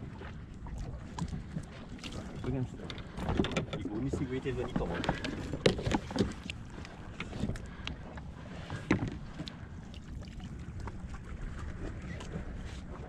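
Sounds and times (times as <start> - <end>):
water around boat: 0.0 - 13.0
wind: 0.0 - 13.0.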